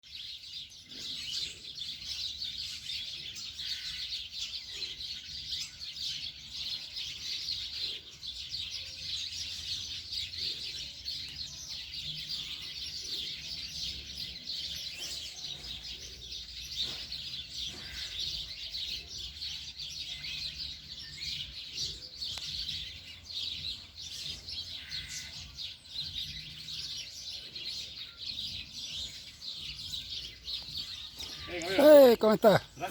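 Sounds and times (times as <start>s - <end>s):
flock of birds chirping: 0.0s - 32.9s.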